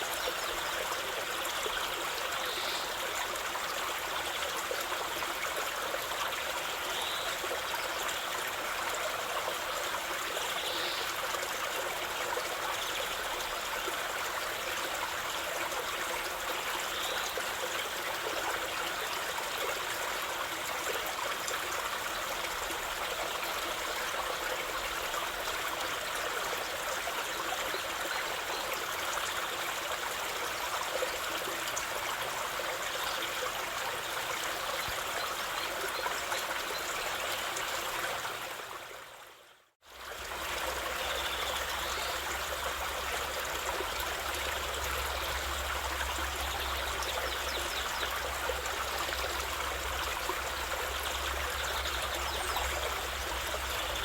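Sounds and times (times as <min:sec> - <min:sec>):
stream of running water: 0:00.0 - 0:54.0.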